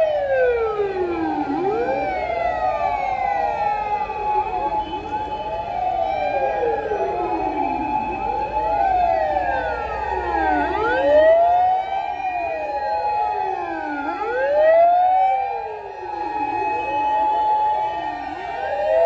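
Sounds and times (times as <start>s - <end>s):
fire engine sirens wailing: 0.0s - 19.0s
steady held siren tone: 0.0s - 19.0s.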